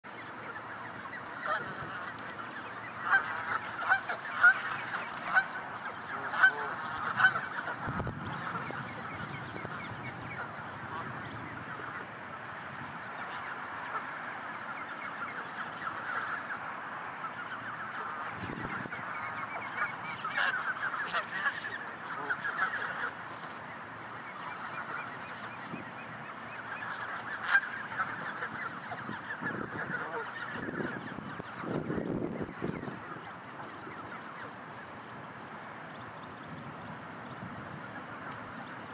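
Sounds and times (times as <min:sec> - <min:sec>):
ducklings peeping: 0:00.1 - 0:38.9.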